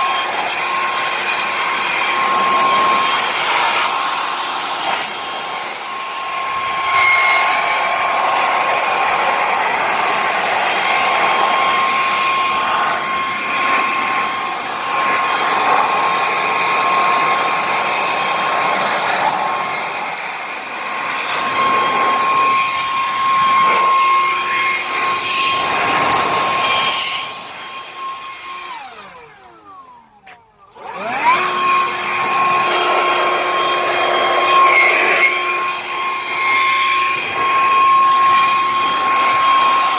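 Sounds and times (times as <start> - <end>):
leaf blower whine and air rush: 0.0 - 39.9.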